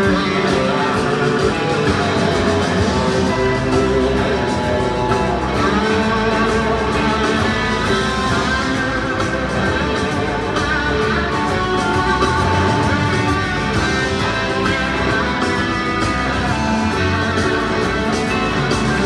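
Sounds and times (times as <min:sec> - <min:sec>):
electric guitar lead lines: 0:00.0 - 0:19.0
live rock band playing: 0:00.0 - 0:19.0.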